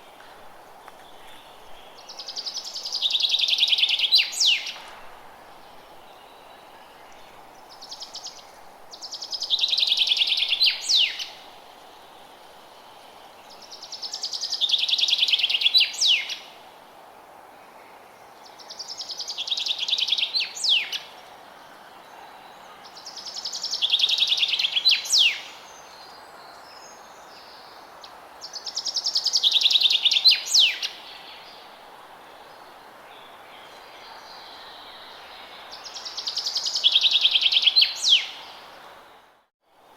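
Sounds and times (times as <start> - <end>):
faint hiss: 0.0 - 39.9.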